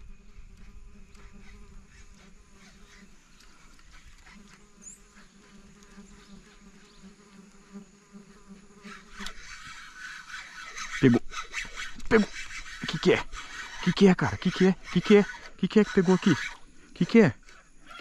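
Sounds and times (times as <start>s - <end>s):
insect buzzing: 0.0s - 18.0s.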